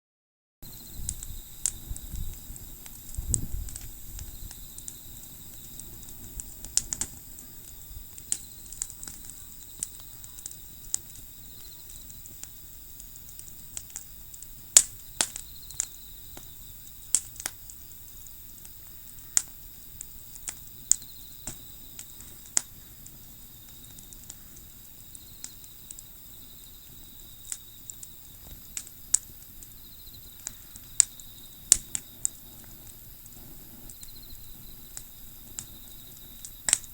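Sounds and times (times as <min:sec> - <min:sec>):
campfire crackling and popping: 0:00.7 - 0:36.9.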